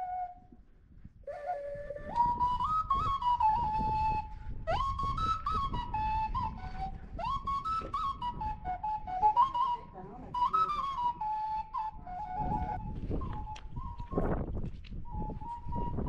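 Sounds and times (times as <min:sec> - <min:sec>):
ocarina melody: 0:00.0 - 0:00.6, 0:01.3 - 0:16.0.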